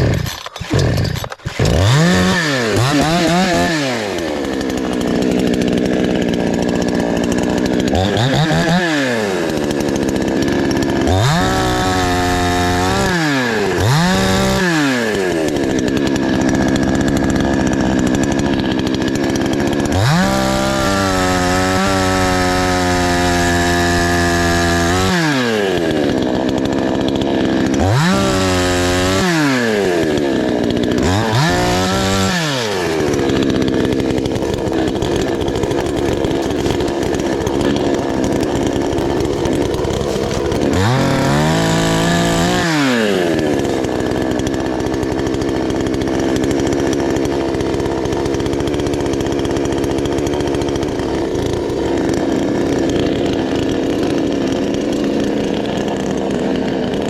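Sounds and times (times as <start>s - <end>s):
chainsaw engine idling and revving: 0.0s - 57.0s.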